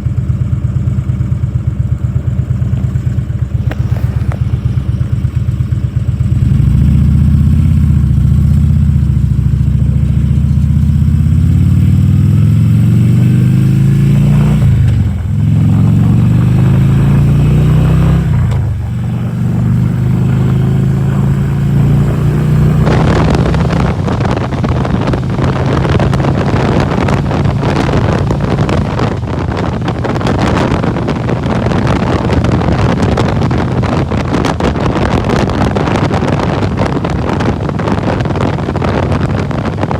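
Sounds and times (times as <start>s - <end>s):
motorcycle engine accelerating: 0.0s - 39.9s
wind rushing over microphone: 2.4s - 39.9s.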